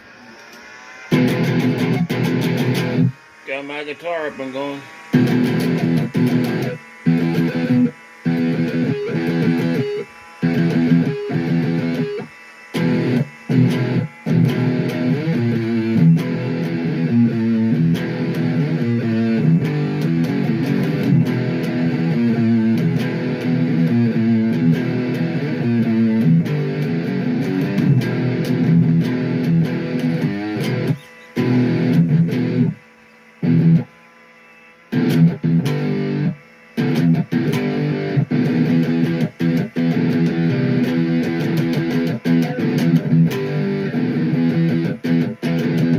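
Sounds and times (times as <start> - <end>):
distorted electric guitar: 0.0 - 34.2, 34.8 - 45.9.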